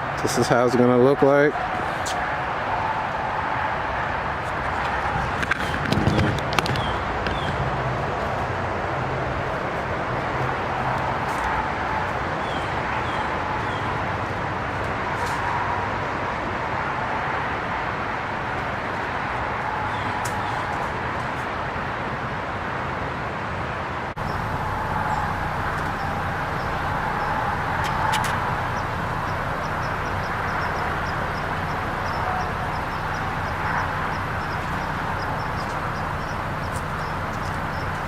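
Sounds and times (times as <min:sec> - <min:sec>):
car running with low hum: 0:00.0 - 0:23.2, 0:24.2 - 0:38.0.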